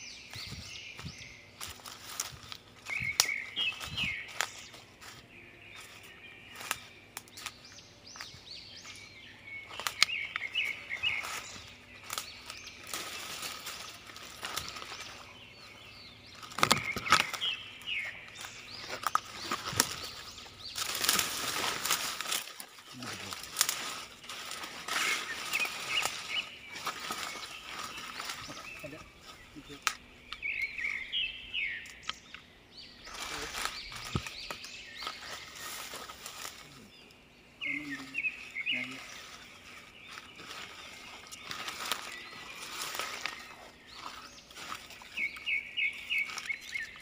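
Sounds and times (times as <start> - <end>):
leaves and twigs rustling: 0.0 - 47.0
small birds chirping: 0.0 - 47.0.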